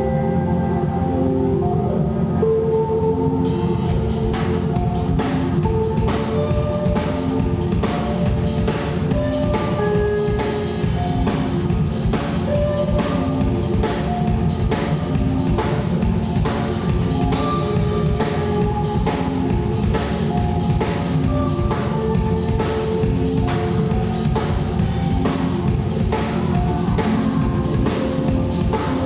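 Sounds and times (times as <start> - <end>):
rock band playing: 3.3 - 29.0
drum kit beat: 3.4 - 29.0.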